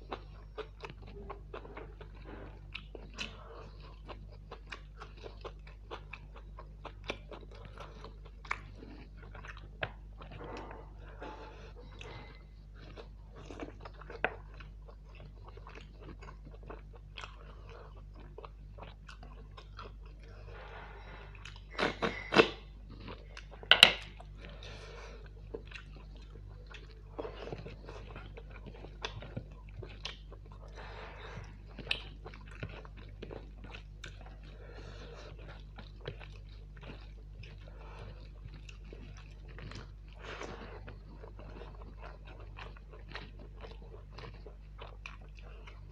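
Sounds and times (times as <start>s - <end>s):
chewing mouth sounds: 0.0s - 45.9s
low steady hum: 0.0s - 45.9s.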